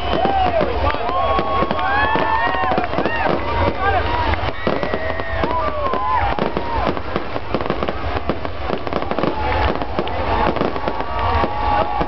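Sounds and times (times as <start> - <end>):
fireworks crackling: 0.0 - 12.0
fireworks whistling: 0.0 - 12.0.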